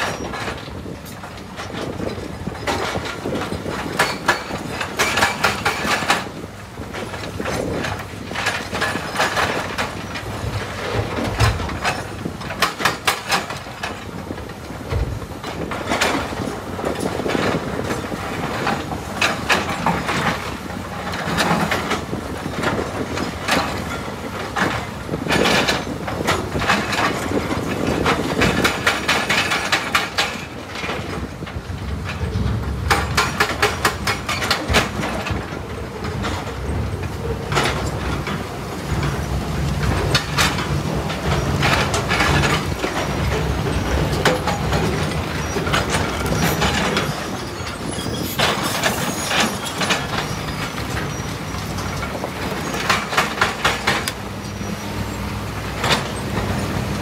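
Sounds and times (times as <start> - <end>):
excavator engine running: 0.0 - 57.0.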